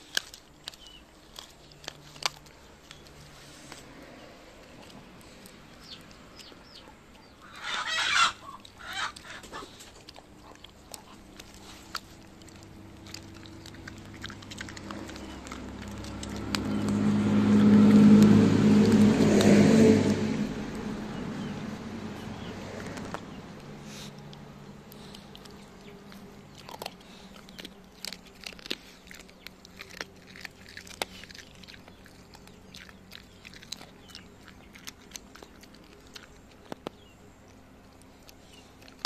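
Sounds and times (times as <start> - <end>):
teeth clicking on bone: 0.0 - 21.5, 22.4 - 39.0
dog gnawing and crunching bones: 0.0 - 39.0.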